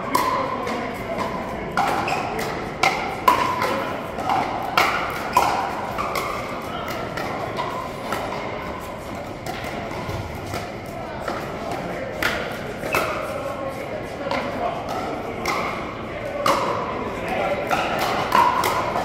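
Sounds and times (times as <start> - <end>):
paddles hitting plastic ball: 0.1 - 13.3, 14.3 - 19.0.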